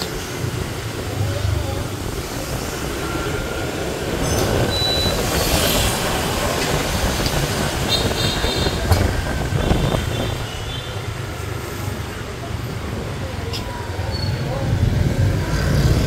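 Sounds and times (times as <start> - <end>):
motorbikes passing: 0.0 - 16.0
scooter engine and road rumble: 0.0 - 16.0.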